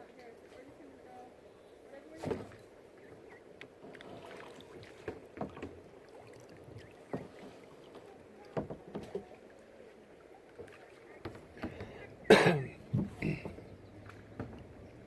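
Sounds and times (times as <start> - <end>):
paddle splashes and drips: 2.0 - 15.0.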